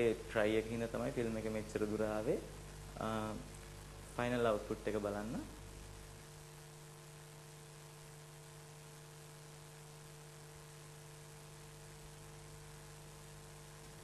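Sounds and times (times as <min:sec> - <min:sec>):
background hiss: 0:00.0 - 0:14.0
faint electrical hum: 0:00.0 - 0:14.0.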